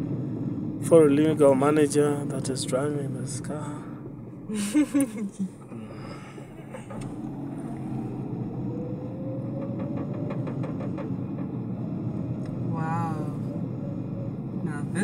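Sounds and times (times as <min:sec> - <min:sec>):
car engine from inside cabin: 0:00.0 - 0:15.0
road noise: 0:00.0 - 0:15.0.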